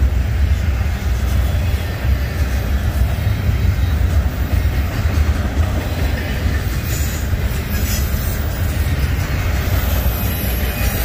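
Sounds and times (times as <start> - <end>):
train passing with low rumble: 0.0 - 11.0.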